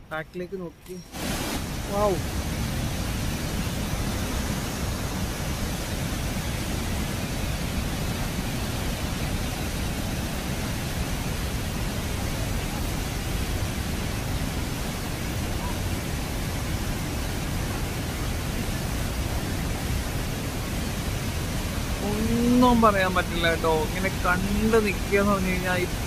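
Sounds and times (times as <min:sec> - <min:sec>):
waterfall rushing: 0:00.9 - 0:26.0.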